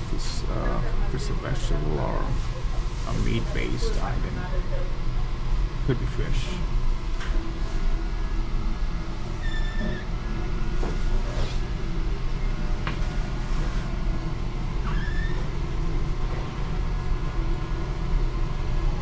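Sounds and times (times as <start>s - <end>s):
low mechanical hum and rumble: 0.0s - 19.0s.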